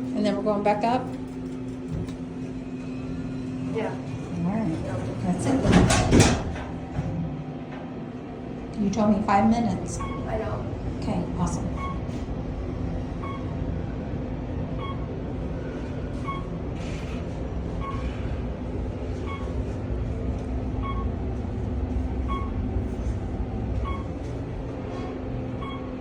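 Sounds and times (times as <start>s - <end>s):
elevator rumble and hum: 0.0s - 26.0s.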